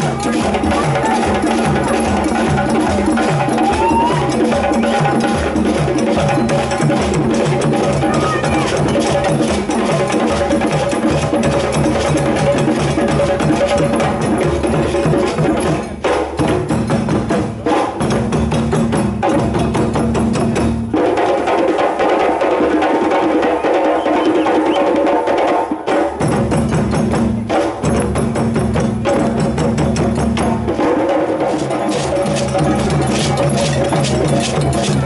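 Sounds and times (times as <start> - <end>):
hand drums playing fast rhythm: 0.0 - 35.0.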